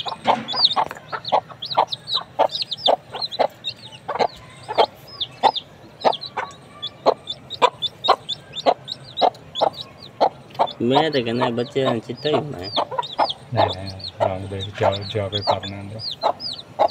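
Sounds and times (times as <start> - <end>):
baby chicks peeping: 0.0 - 16.9
hen clucking: 0.0 - 16.9.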